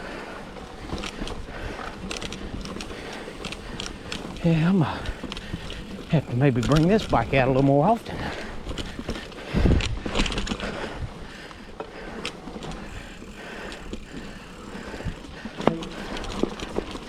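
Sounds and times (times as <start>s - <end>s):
bike tyres on dirt: 0.0s - 17.0s
chain and frame rattling: 0.7s - 10.7s, 12.2s - 17.0s
scattered clicks: 0.9s - 10.7s, 12.1s - 17.0s.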